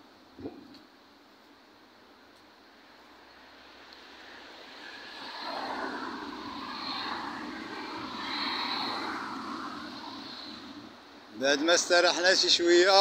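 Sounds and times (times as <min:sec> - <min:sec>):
road traffic passing: 0:00.8 - 0:13.0.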